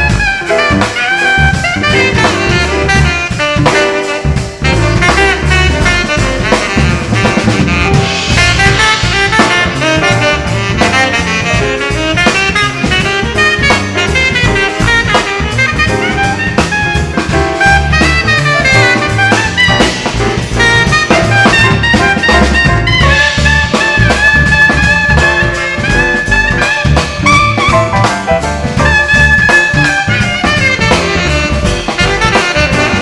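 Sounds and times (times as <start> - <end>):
drum kit beat: 0.0 - 33.0
horns: 0.0 - 33.0
live jazz band: 0.0 - 33.0.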